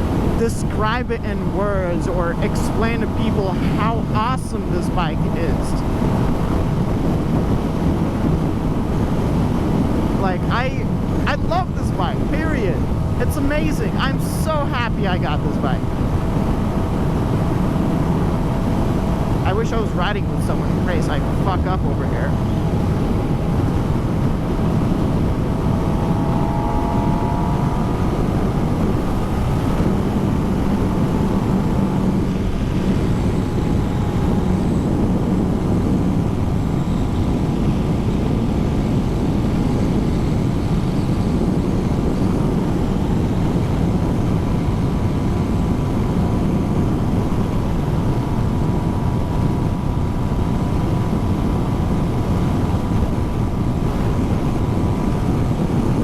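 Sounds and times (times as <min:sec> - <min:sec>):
motorcycle engine running at speed: 0:00.0 - 0:56.0
wind rushing on microphone: 0:00.0 - 0:56.0.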